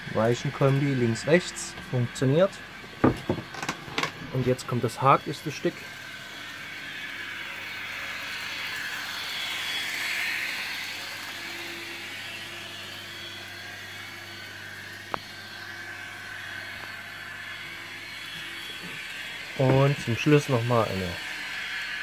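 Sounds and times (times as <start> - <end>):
model train motor and wheels whirring: 0.0 - 22.0.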